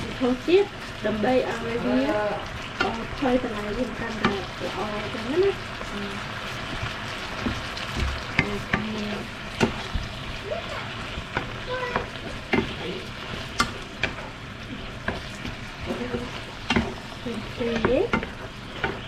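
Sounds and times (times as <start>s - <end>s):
food sizzling in a hot pan: 0.0s - 19.0s.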